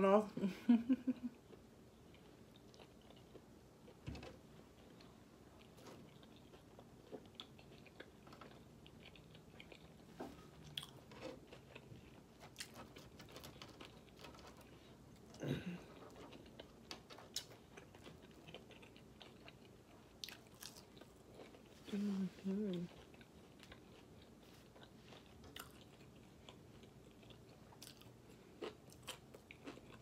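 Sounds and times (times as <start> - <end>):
close-up chewing: 1.4 - 4.0, 4.6 - 30.0.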